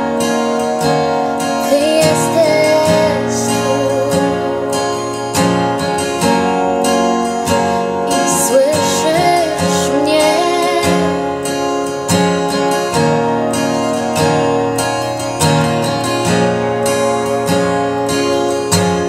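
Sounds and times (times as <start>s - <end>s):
strummed acoustic guitar chords: 0.0s - 19.0s
wavering lead melody: 0.0s - 19.0s.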